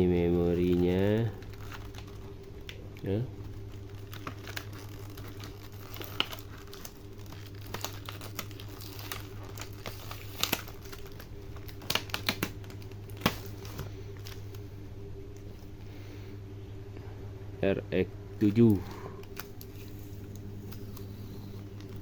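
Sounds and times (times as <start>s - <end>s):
plastic packaging crinkling: 0.0s - 16.0s, 18.4s - 22.0s
steady low hum: 0.0s - 22.0s.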